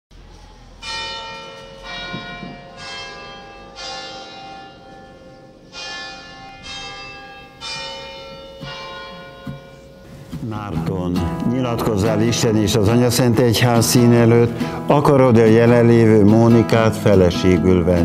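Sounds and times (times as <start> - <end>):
church bells ringing: 0.2 - 18.0.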